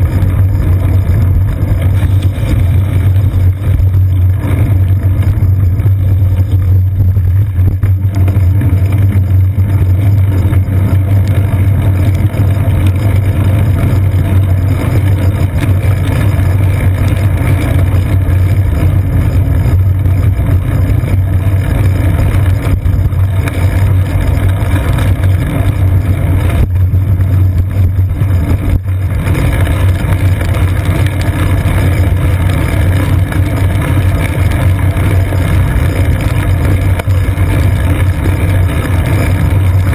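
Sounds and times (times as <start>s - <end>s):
muffled wind and road rumble: 0.0s - 39.9s.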